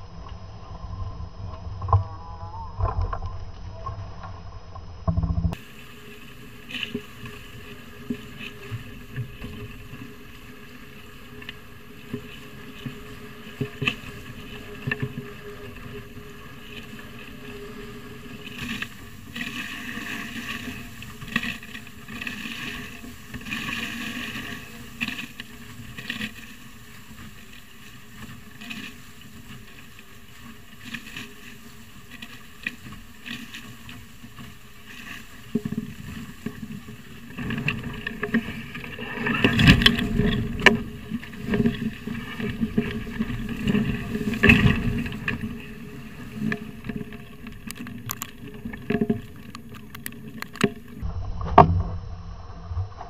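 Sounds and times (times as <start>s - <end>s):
water rushing along hulls: 0.0s - 53.0s.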